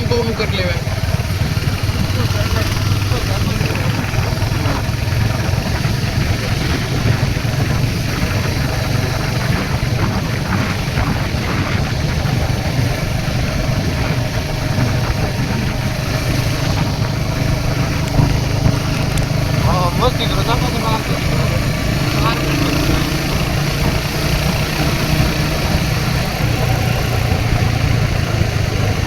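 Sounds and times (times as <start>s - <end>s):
motorcycle engine running: 0.0s - 29.0s
wind and road noise: 0.0s - 29.0s.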